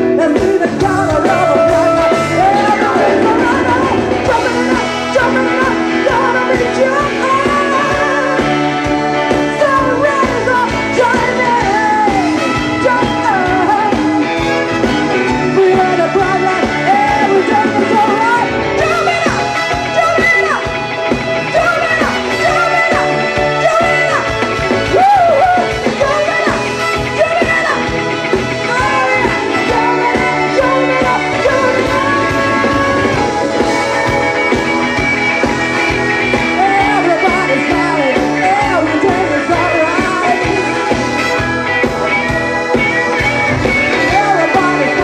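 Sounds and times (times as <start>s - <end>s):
lead vocal singing: 0.0s - 20.7s, 21.5s - 45.0s
live band playing jazzy soul: 0.0s - 45.0s.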